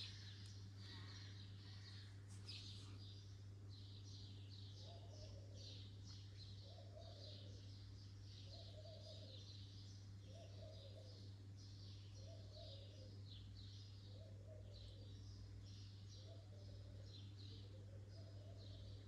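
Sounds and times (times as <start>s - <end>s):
small birds calling: 0.0s - 19.0s.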